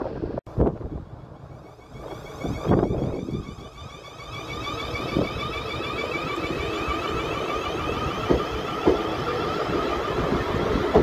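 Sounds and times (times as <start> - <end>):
electric train whining: 0.6 - 11.0
wheels clunking on track: 1.8 - 11.0.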